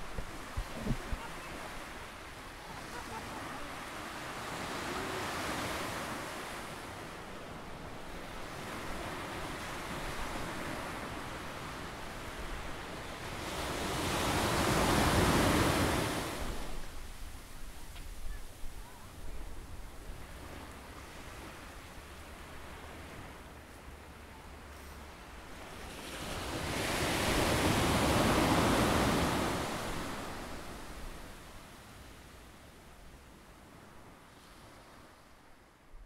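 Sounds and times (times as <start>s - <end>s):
waves breaking on beach: 0.0s - 35.8s.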